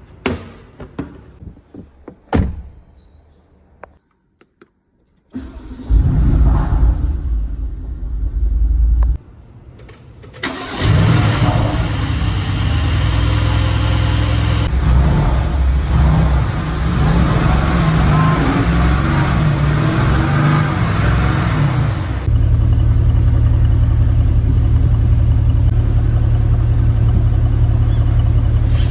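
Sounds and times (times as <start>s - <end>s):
car engine starting and running: 5.0s - 28.9s.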